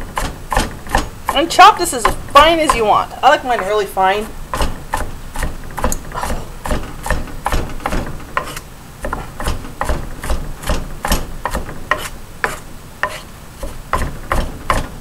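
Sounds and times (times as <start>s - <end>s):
knife chopping on wooden board: 0.0s - 3.8s, 4.5s - 15.0s.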